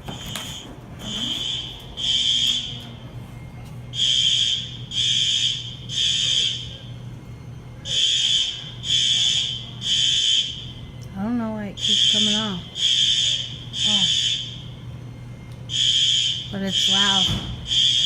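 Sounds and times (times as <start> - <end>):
fire alarm beeps: 0.0 - 18.0.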